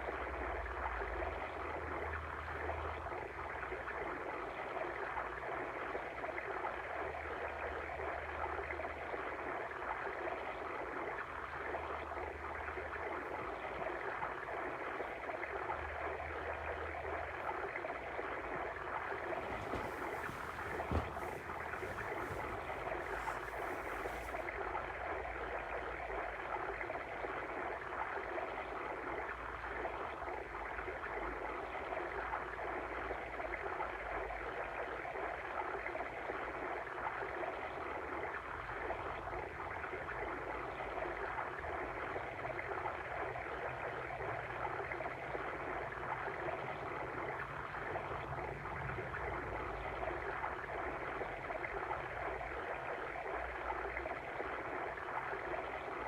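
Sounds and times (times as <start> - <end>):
stream water gurgling: 0.0 - 56.0.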